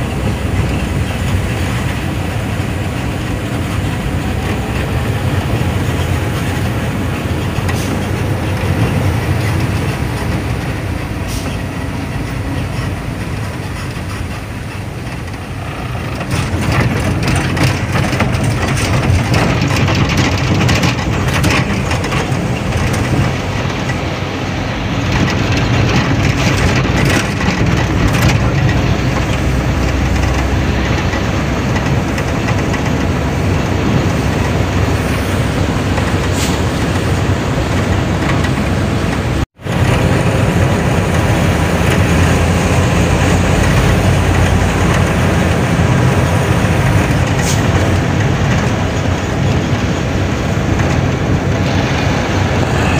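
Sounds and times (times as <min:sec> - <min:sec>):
road noise: 0:00.0 - 0:52.9
truck cab rattling: 0:00.0 - 0:52.9
truck engine droning: 0:00.0 - 0:52.9.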